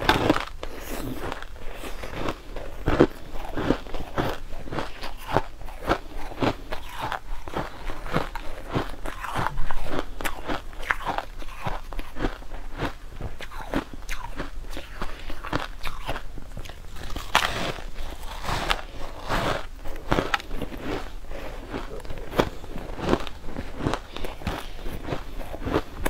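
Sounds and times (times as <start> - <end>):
shaved ice crunching in mouth: 0.0 - 26.0.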